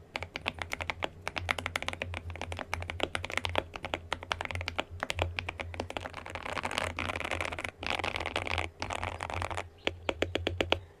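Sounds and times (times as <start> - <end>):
mechanical keyboard typing: 0.0 - 10.9
steady low hum: 0.0 - 11.0.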